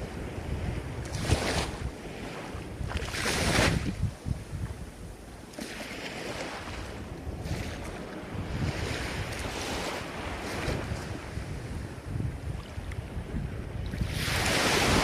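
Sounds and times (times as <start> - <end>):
ocean waves breaking: 0.0 - 15.0
wind rumble on microphone: 0.0 - 15.0.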